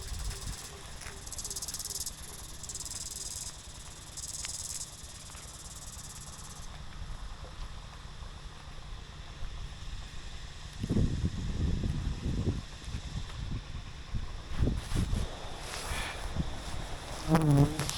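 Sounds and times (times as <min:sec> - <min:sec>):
insects trilling: 0:00.0 - 0:17.9.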